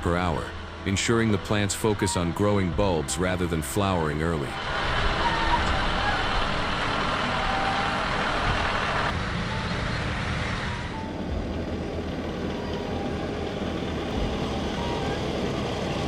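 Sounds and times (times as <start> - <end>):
tractor machinery rumble: 0.0 - 16.0.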